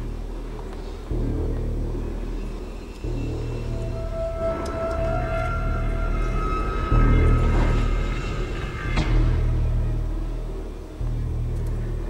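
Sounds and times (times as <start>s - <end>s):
eerie moaning tone: 0.0s - 12.0s
low rumbling drone: 0.0s - 12.0s.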